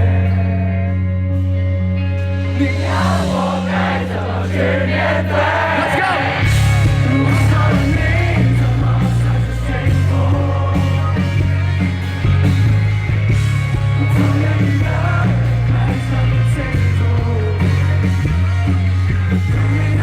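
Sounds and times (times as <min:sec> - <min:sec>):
heavy bass: 0:00.0 - 0:20.0
rock band playing: 0:00.0 - 0:20.0
lead vocal singing: 0:02.4 - 0:12.6, 0:13.6 - 0:20.0.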